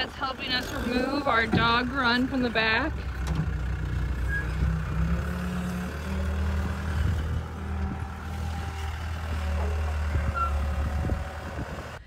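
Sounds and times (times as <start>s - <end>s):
diesel engine running: 0.0s - 12.0s
loader bucket pushing dirt: 0.0s - 12.0s.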